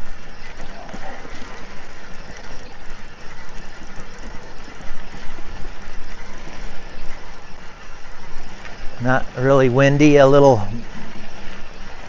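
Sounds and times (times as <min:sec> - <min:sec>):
tyres on gravel road: 0:00.0 - 0:12.0
wind rumbling on microphone: 0:00.0 - 0:12.0.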